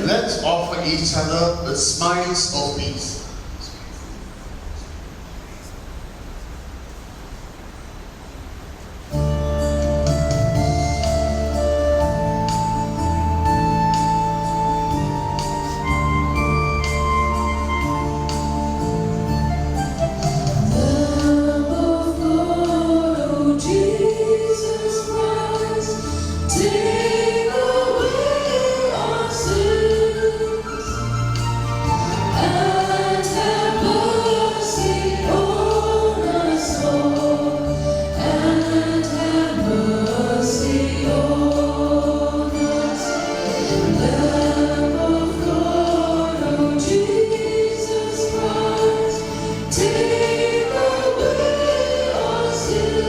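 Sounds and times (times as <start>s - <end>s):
instrumental accompaniment: 9.1s - 53.0s
choir singing a hymn: 10.3s - 53.0s.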